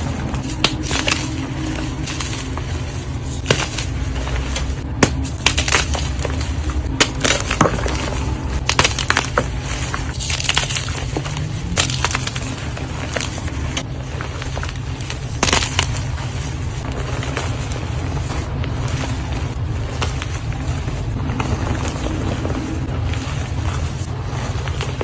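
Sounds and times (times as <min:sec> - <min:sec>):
chalk blocks being crushed: 0:00.0 - 0:25.0
steady low hum: 0:00.0 - 0:25.0.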